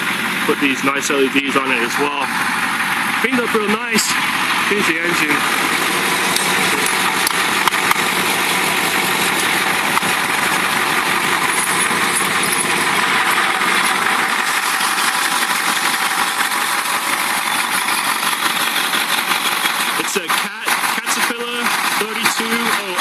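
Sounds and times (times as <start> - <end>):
diesel bus engine idling: 0.0 - 23.0.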